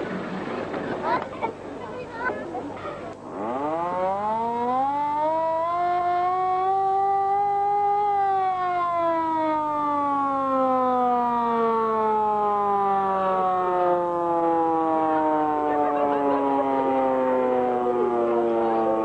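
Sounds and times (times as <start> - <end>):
hand siren wailing: 3.3 - 19.0.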